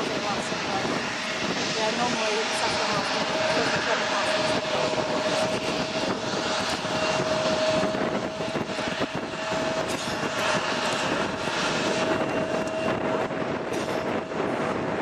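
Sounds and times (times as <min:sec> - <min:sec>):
broad rushing noise: 0:00.0 - 0:15.0
jet engine whine: 0:00.0 - 0:15.0.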